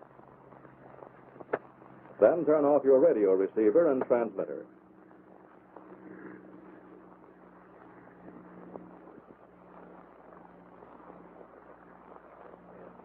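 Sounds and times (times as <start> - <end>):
crackles: 0.0 - 13.0
film hiss: 0.0 - 13.0
low hum: 0.0 - 13.0.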